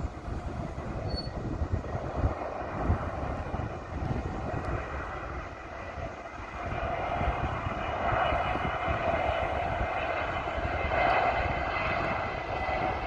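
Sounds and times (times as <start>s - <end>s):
jet engines roaring: 0.0s - 13.0s
wind rumbling on microphone: 0.0s - 13.0s.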